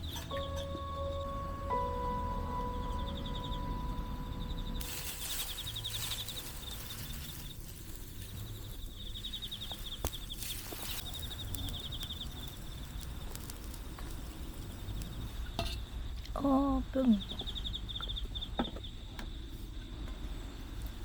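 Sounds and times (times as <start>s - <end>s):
insects chirping in trills: 0.0s - 21.0s.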